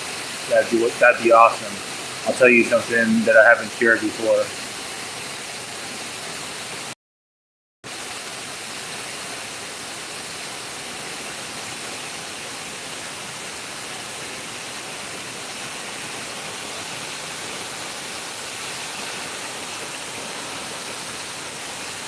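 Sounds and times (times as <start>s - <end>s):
water pouring over dam: 0.0s - 6.9s, 7.9s - 22.0s.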